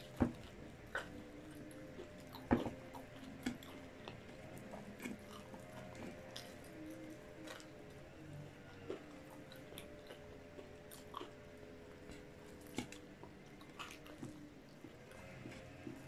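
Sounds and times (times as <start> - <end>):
chewing: 0.0 - 16.0
faint hum: 0.0 - 16.0.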